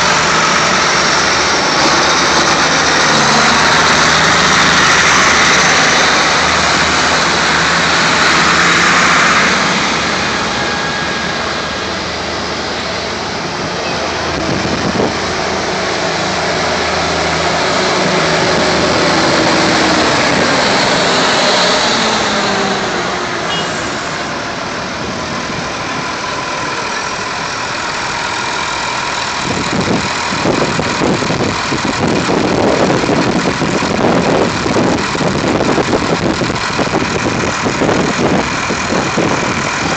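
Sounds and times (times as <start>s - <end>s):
rough pulsing engine: 0.0s - 39.9s
tractor engines running: 0.0s - 39.9s.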